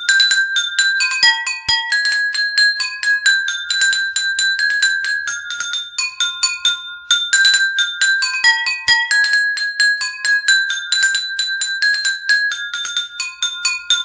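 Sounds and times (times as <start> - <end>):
bell-like ringtone melody: 0.0 - 14.0.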